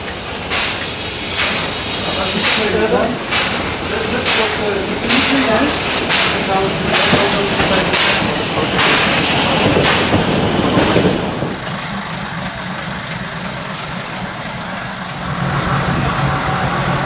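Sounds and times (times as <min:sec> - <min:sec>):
steam locomotive puffing: 0:00.0 - 0:11.8, 0:13.4 - 0:15.9.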